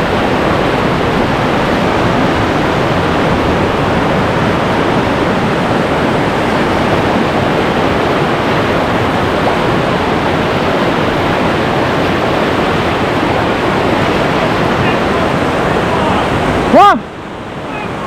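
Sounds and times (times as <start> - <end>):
whitewater rushing through rapid: 0.0 - 18.0.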